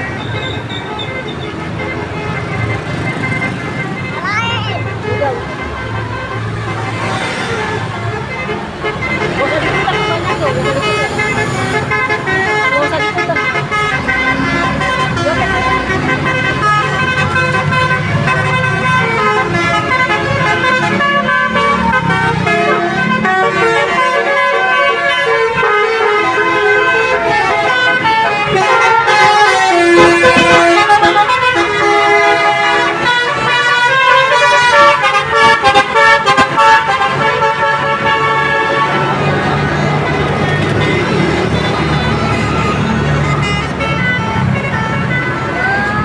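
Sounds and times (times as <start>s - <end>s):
bus horn playing a tune: 0.0s - 46.0s.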